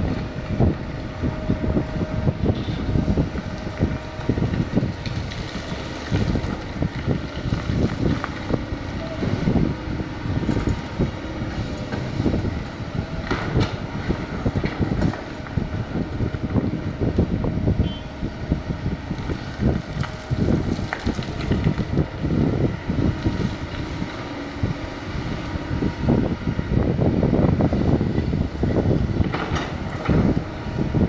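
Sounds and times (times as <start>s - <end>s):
excavator engine rumbling: 0.0s - 31.0s.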